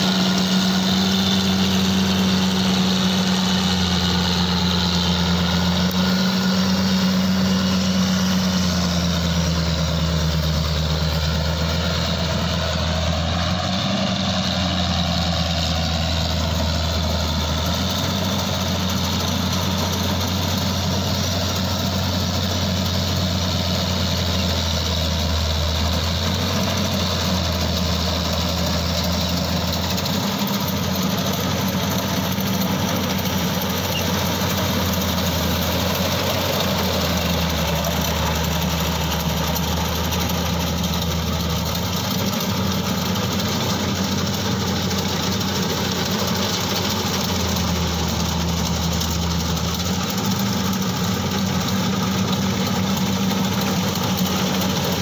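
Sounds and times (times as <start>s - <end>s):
combine harvester engine hum: 0.0s - 55.0s
threshing machinery noise: 0.0s - 55.0s.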